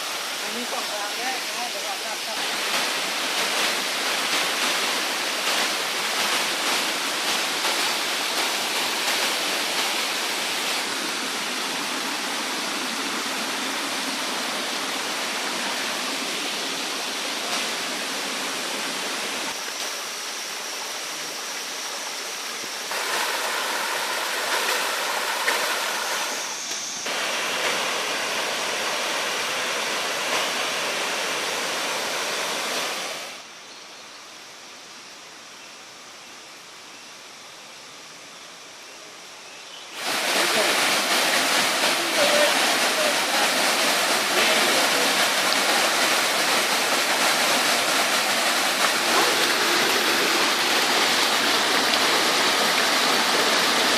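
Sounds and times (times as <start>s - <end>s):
waterfall rushing: 0.0s - 33.4s, 39.9s - 53.9s.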